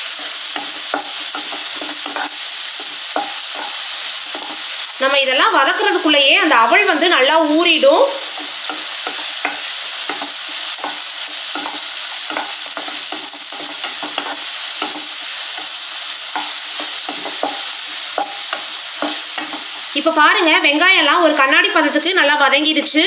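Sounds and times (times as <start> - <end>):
vegetables sizzling in hot oil: 0.0 - 23.0.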